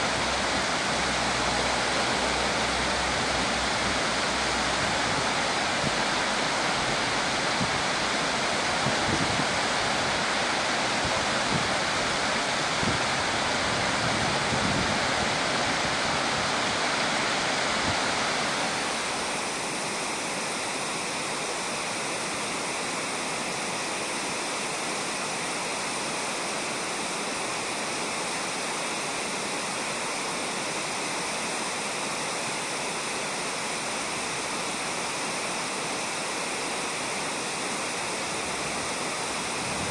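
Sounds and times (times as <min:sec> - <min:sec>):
river running over gravel: 0:00.0 - 0:39.9.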